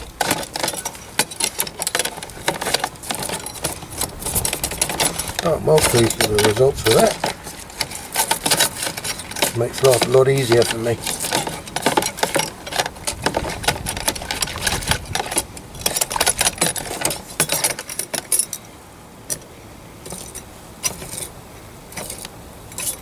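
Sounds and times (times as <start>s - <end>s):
small metal parts clinking: 0.0s - 18.7s, 20.0s - 23.0s.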